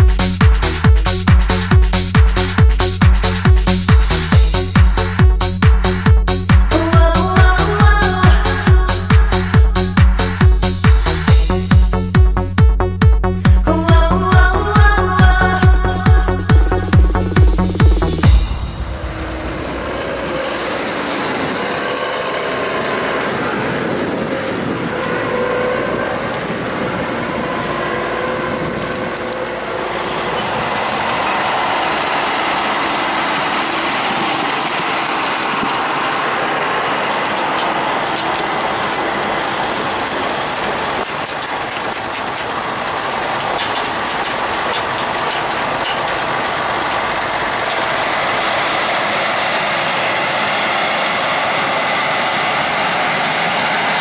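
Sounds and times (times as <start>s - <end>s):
harvest machinery working: 0.0s - 54.0s.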